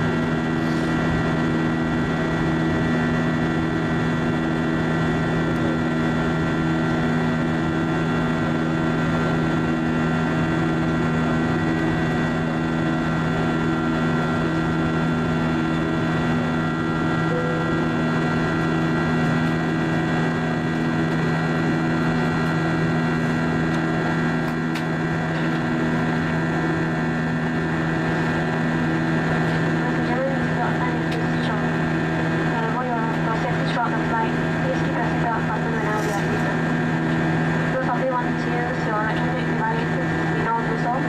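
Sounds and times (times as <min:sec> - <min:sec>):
high engine whine: 0:00.0 - 0:41.0
jet engines droning: 0:00.0 - 0:41.0.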